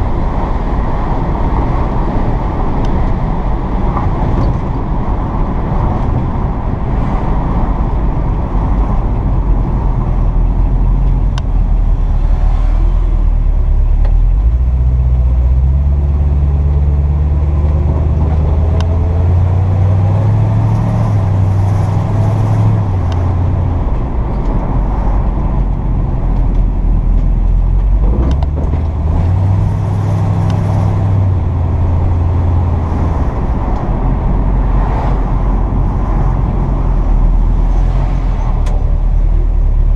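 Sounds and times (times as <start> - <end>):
pickup engine accelerating: 0.0 - 39.9
road noise: 0.0 - 39.9.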